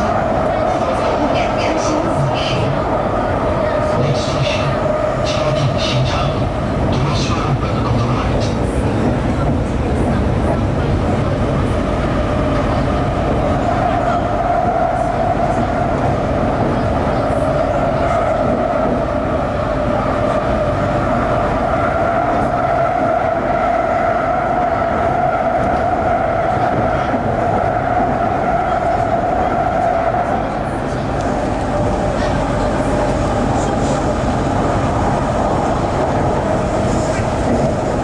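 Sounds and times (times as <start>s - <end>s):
train wheels rumbling on rails: 0.0s - 38.0s
train whine: 0.0s - 38.0s.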